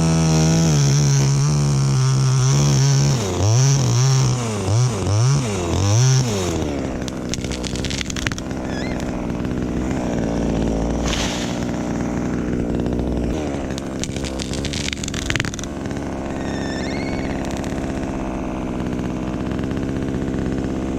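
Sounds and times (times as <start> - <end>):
chainsaw engine revving: 0.0 - 20.9.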